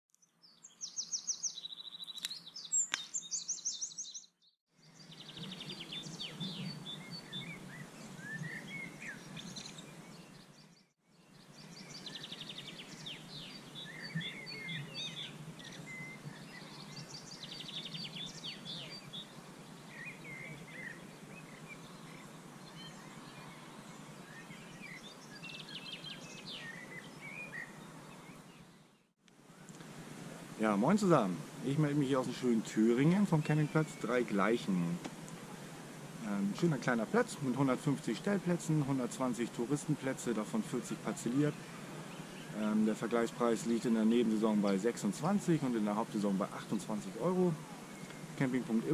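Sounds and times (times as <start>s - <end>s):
outdoor background noise: 0.1s - 48.9s
songbirds singing and chirping: 0.1s - 48.9s.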